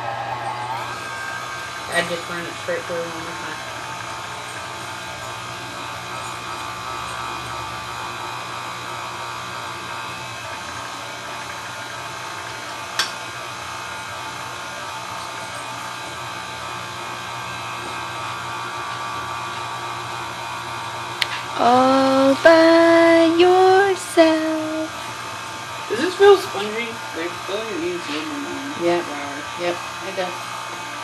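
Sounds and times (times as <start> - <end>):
pasta machine motor running: 0.0 - 31.0.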